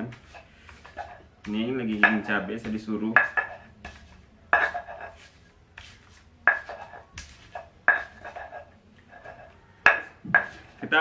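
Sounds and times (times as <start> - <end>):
stone pestle pounding in mortar: 0.0 - 8.6, 9.2 - 10.8.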